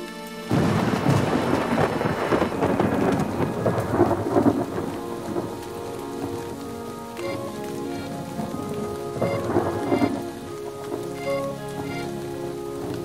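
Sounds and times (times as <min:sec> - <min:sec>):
steady rain: 0:00.0 - 0:13.0
rolling thunder: 0:00.5 - 0:13.0.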